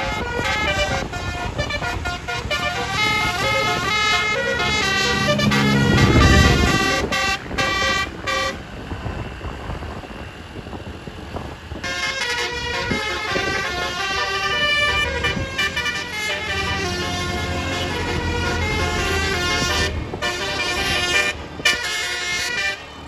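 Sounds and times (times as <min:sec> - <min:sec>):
bus horn playing a tune: 0:00.0 - 0:10.0, 0:11.7 - 0:23.0.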